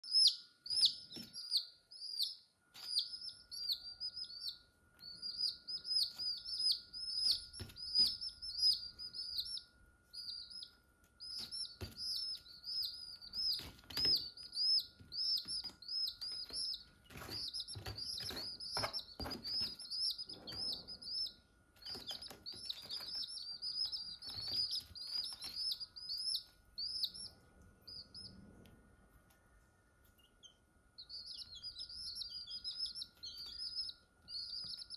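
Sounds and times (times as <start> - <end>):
chicks peeping: 0.0 - 28.7, 30.0 - 34.9.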